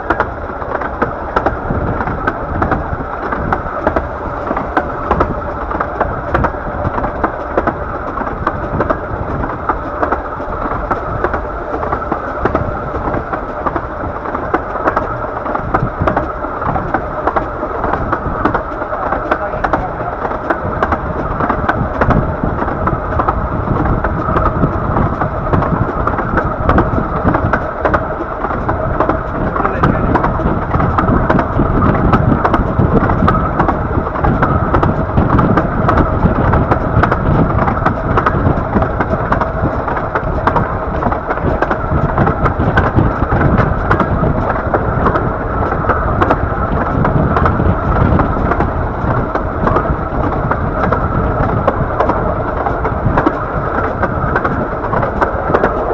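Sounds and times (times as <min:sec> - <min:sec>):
train rumbling along track: 0:00.0 - 0:55.9.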